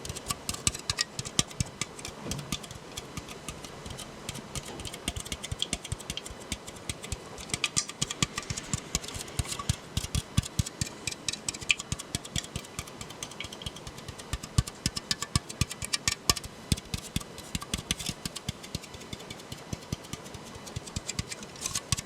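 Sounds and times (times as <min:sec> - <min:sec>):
tapping on a soda can: 0:00.0 - 0:22.0.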